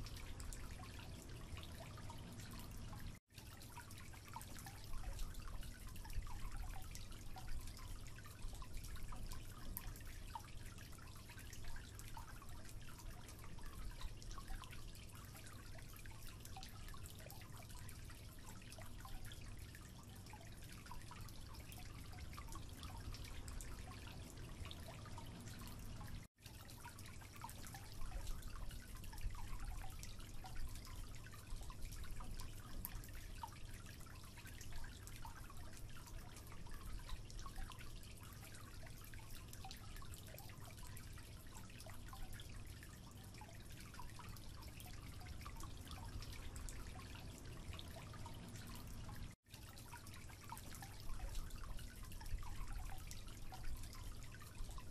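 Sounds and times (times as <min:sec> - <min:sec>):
water dripping into a sink: 0:00.0 - 0:54.9.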